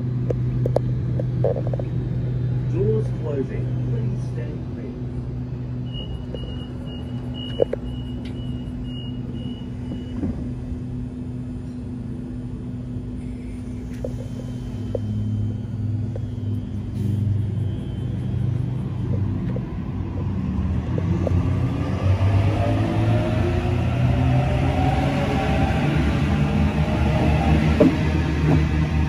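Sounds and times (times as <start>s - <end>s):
electric train motors humming: 0.0s - 29.0s.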